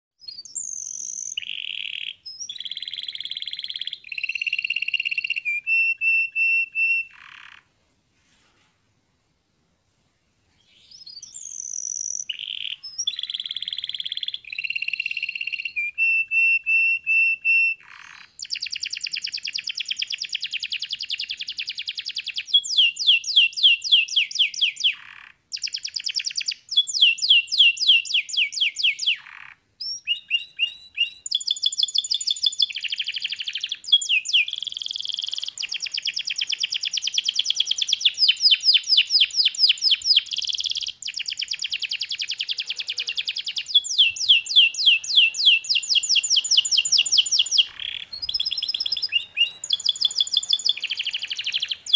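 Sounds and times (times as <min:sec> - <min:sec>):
canary singing trills: 0:00.2 - 0:07.7, 0:10.6 - 0:51.9.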